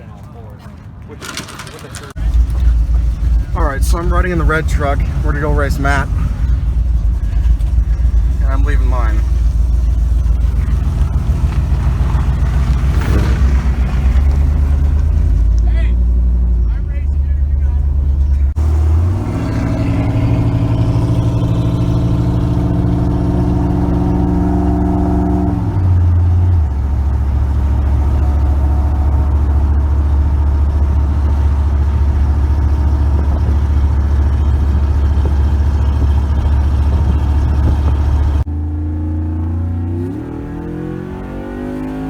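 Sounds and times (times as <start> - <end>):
truck engine accelerating: 1.5 - 42.0.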